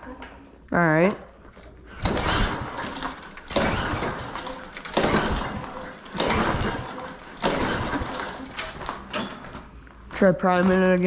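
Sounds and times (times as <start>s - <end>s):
lawn mower engine turning over: 1.5s - 11.0s.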